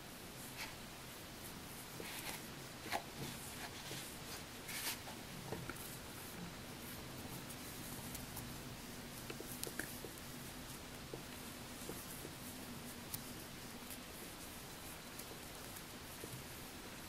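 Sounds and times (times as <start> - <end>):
yarn rustling through stitches: 0.0 - 17.0.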